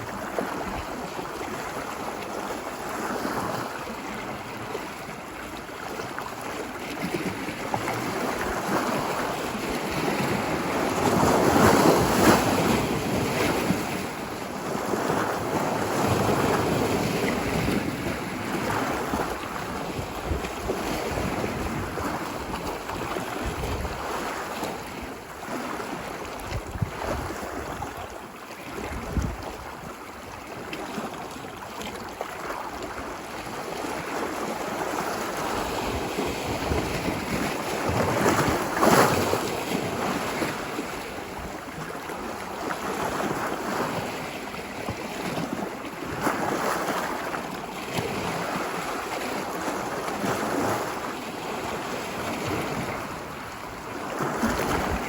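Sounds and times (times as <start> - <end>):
wind rumble on microphone: 0.0 - 31.0, 32.5 - 55.0
ocean waves washing ashore: 0.0 - 55.0.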